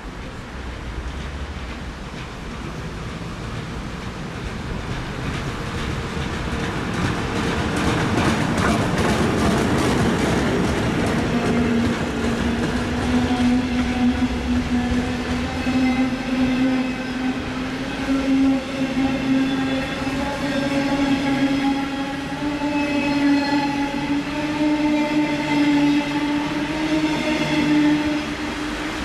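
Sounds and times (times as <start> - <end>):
train rail and wheel noise: 0.0 - 29.0.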